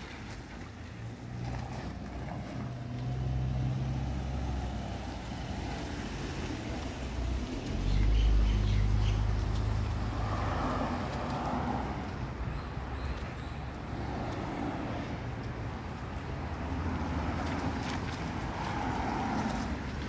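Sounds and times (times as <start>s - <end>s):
steady traffic noise: 0.0s - 20.0s
vehicle engine rumble: 0.0s - 20.0s.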